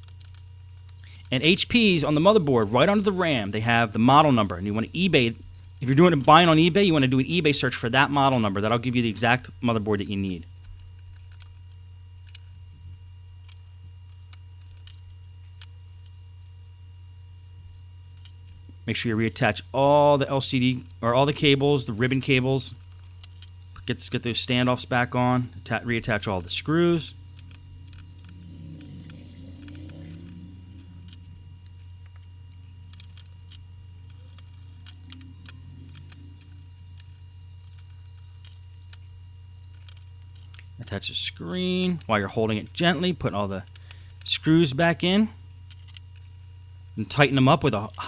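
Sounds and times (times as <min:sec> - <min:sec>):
faint steady tones: 0:00.0 - 0:48.0
steady low hum: 0:00.0 - 0:48.0.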